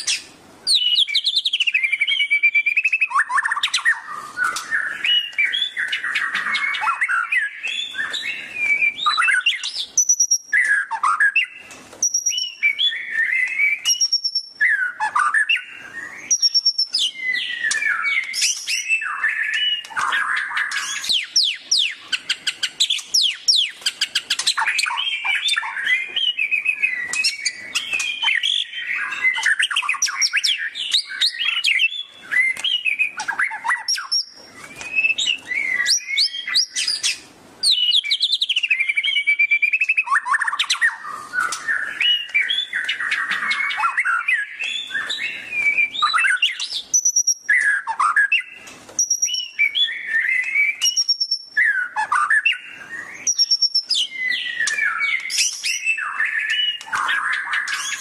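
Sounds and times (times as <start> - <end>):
songbird whistling and trilling: 0.0 - 58.0.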